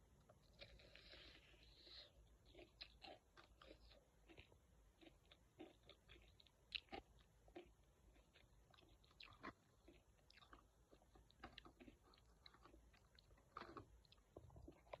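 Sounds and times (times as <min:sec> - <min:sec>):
person chewing crunchy food: 0:00.2 - 0:15.0.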